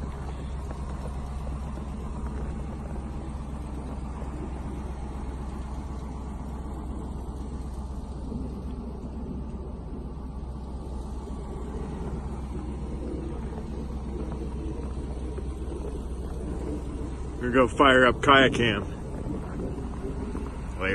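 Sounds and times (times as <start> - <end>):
vehicle engine rumble: 0.0 - 20.9.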